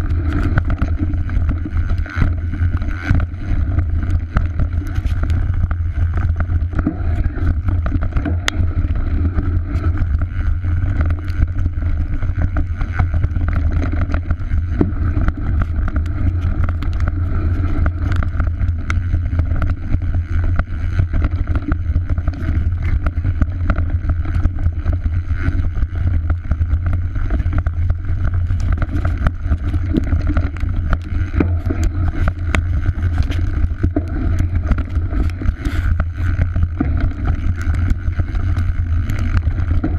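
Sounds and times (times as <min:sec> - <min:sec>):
bike clicks and rattles: 0:00.0 - 0:39.9
tyre rumble: 0:00.0 - 0:39.9.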